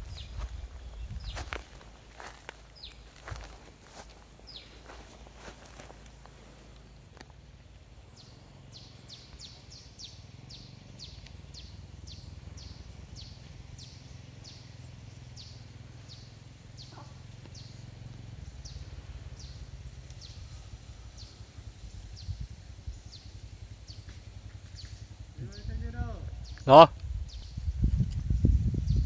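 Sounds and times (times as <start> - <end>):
steady low rumble: 0.0 - 16.7, 17.5 - 29.0.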